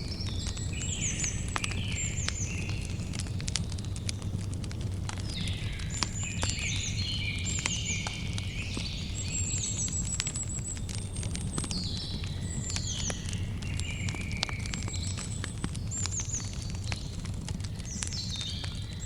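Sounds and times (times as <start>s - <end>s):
birds chirping: 0.0s - 4.4s, 5.2s - 19.0s
campfire crackling and popping: 0.0s - 19.0s.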